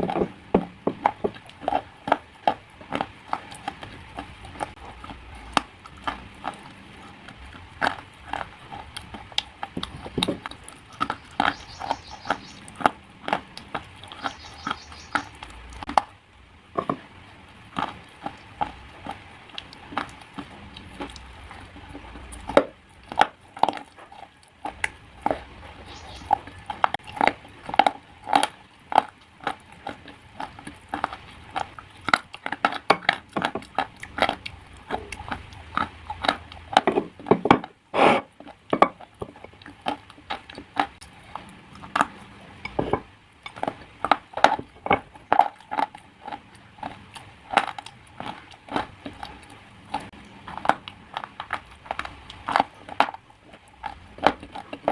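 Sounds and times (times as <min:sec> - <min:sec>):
slate crunching being chewed: 0:00.0 - 0:54.9.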